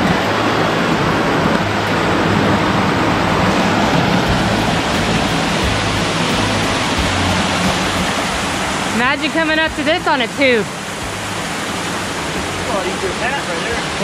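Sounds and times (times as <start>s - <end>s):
creek rushing over rocks: 0.0s - 14.0s.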